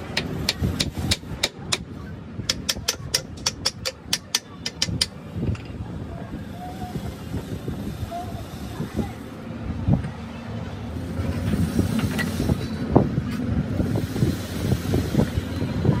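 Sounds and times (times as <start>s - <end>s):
low workshop rumble: 0.0s - 16.0s.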